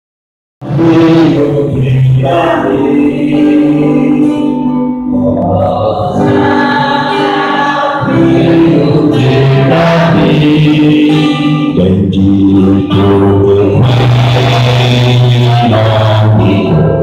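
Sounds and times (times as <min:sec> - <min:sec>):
voices singing a hymn: 0:00.6 - 0:17.0.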